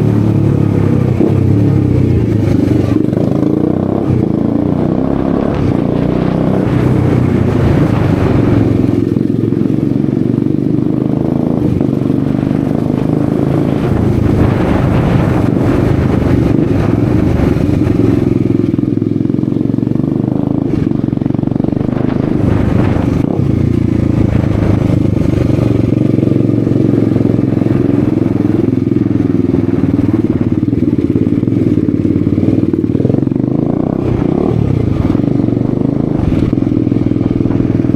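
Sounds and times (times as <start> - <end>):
loud unmuffled motorcycle engine revving: 0.0 - 37.9.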